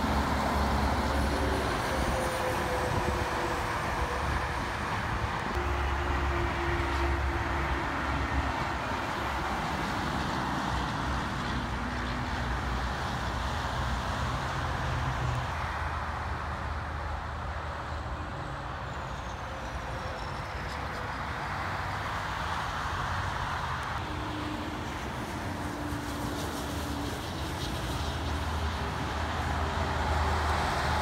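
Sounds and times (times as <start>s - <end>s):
tyre noise of passing traffic: 0.0s - 31.0s.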